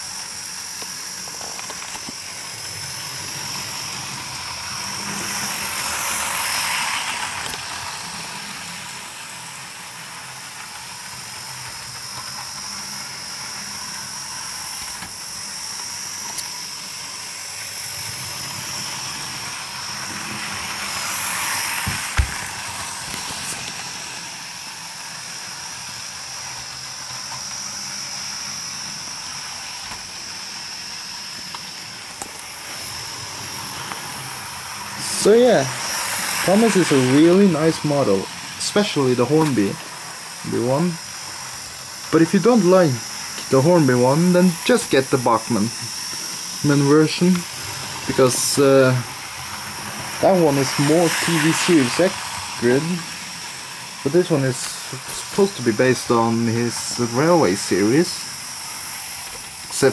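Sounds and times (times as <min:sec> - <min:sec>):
model train motor whirring: 0:00.0 - 0:59.9.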